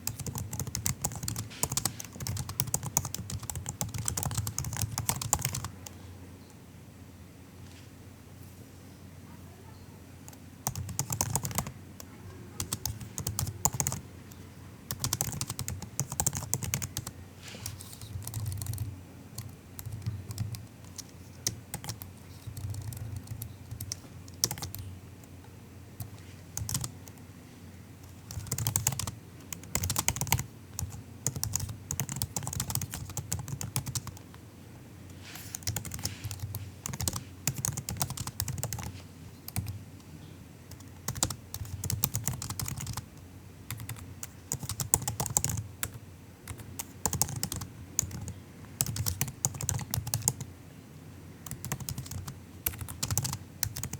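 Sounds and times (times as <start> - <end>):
laptop keyboard typing: 0.0 - 6.0, 10.2 - 25.4, 26.0 - 27.2, 28.0 - 34.4, 35.1 - 39.8, 40.7 - 50.5, 51.4 - 53.9.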